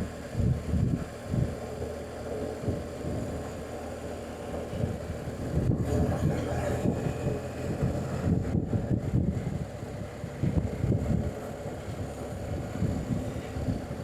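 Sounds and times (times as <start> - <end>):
motorcycle engine and road rumble: 0.0 - 14.0
wind buffeting microphone: 0.0 - 14.0.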